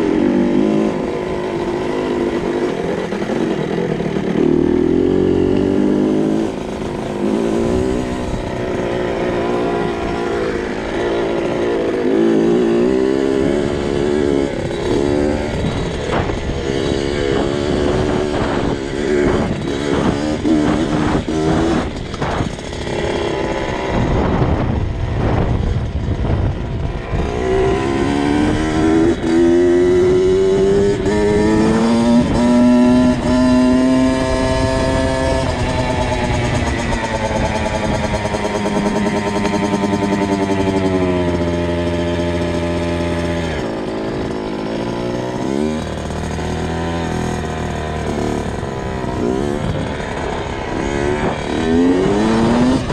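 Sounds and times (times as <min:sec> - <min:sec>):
two-stroke motorcycle engine revving: 0:00.0 - 0:52.9.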